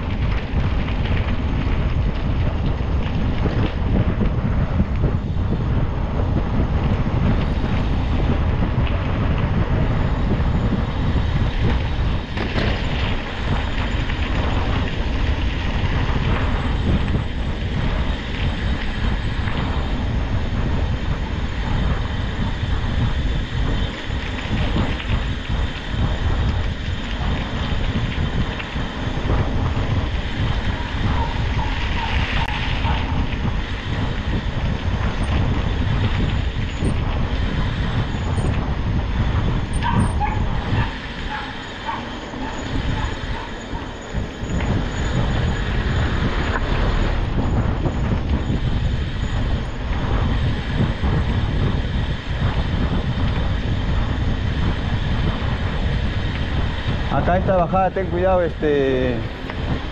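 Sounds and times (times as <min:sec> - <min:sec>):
rumble of moving over rough track: 0:00.0 - 0:59.9
wind buffeting microphone: 0:00.0 - 0:59.9.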